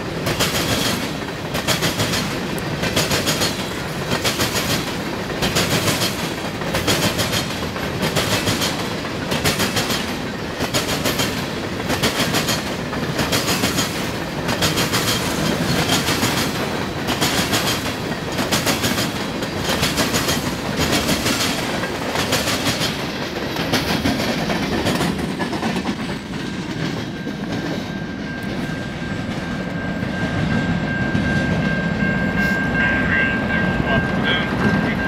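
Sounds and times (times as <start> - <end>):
train wheels clacking over rail joints: 0.0 - 31.8
train rumble: 0.0 - 35.0.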